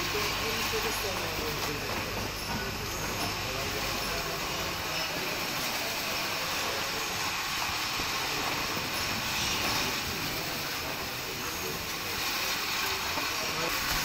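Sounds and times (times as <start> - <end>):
factory machinery hum and hiss: 0.0 - 14.0.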